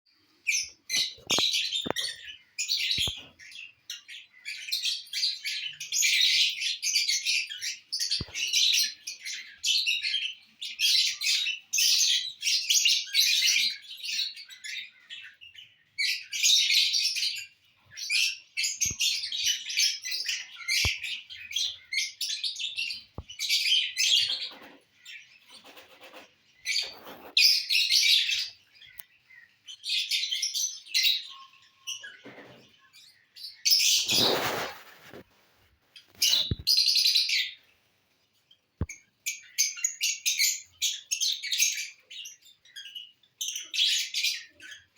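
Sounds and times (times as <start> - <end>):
lovebirds chirping and chattering: 0.1 - 44.9.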